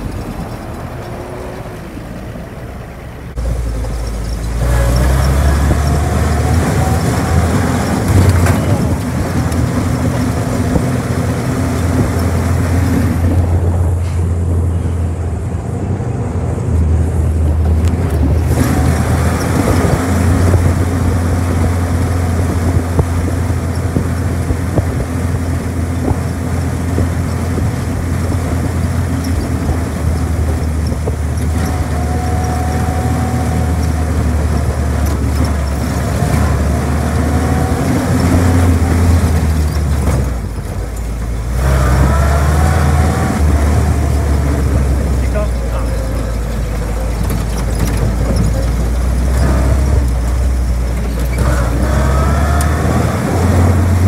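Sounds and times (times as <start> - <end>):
jeep engine running: 0.0 - 54.0
road and wind noise: 0.0 - 54.0.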